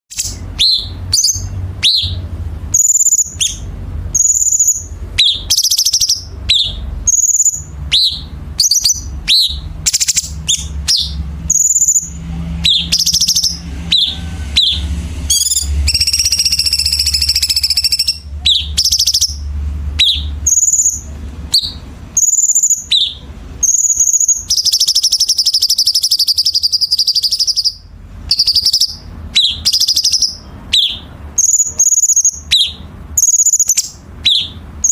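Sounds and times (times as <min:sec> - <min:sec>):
low hum: 0:00.1 - 0:29.7
bird chirping and whistling: 0:00.1 - 0:34.9
buzzy bird trill: 0:00.1 - 0:34.9.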